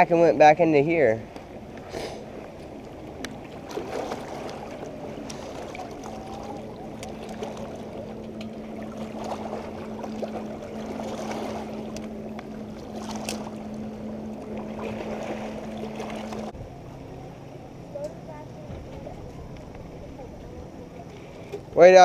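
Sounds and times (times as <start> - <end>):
steady low hum: 0.0 - 22.0
water lapping and sloshing: 0.0 - 22.0.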